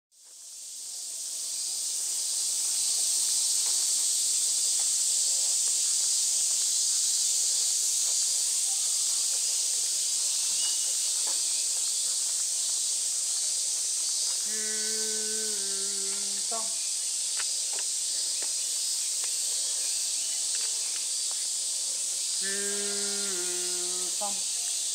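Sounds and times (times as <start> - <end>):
cicada chorus: 0.2 - 24.9.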